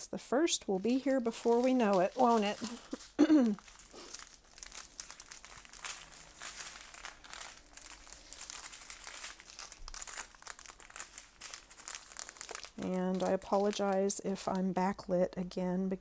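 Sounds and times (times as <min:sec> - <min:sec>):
plastic bags crinkling: 0:00.5 - 0:14.8.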